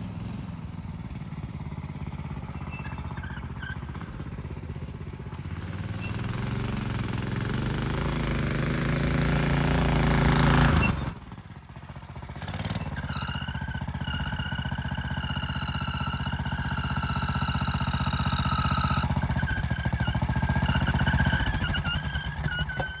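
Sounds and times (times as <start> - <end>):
engine idling: 0.0 - 23.0
minibike engine running: 0.0 - 23.0.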